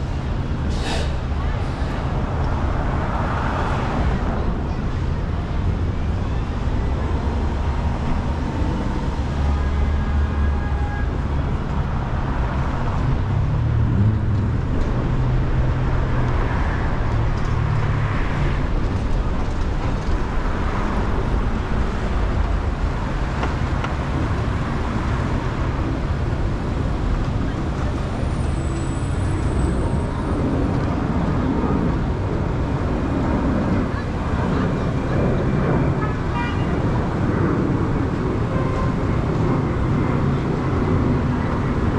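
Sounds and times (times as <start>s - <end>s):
street traffic rumble: 0.0s - 41.9s.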